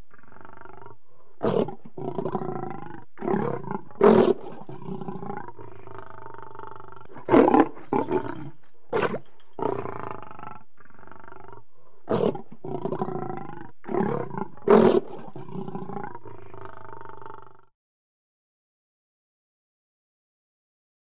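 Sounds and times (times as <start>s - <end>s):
lion growling: 0.0s - 17.7s.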